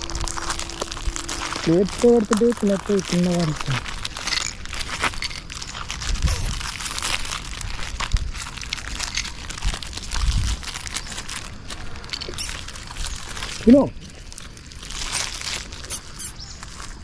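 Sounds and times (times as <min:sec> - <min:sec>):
dogs crunching biscuits: 0:00.0 - 0:17.0.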